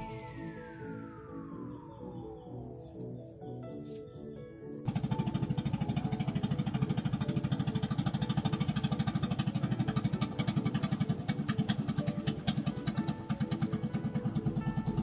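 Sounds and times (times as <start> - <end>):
small engine chugging: 0.0 - 2.5, 4.9 - 15.0.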